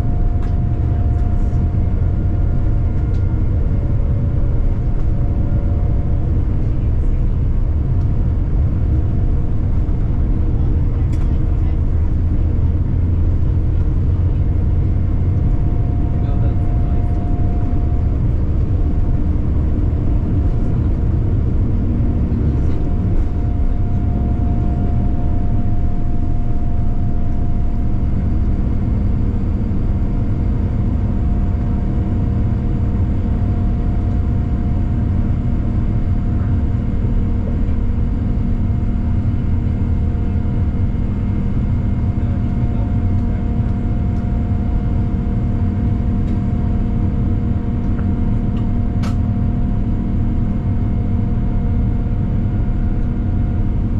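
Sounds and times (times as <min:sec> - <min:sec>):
aircraft engines rumbling in cabin: 0:00.0 - 0:53.9.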